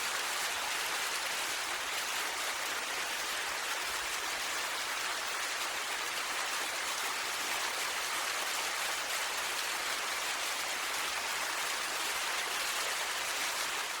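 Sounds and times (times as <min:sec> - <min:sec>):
rushing water hiss: 0:00.0 - 0:14.0.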